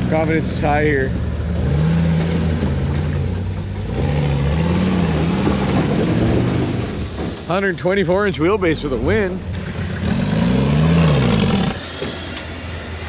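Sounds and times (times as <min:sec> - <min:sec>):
engine pulling under throttle: 0:00.0 - 0:07.5, 0:08.8 - 0:12.0.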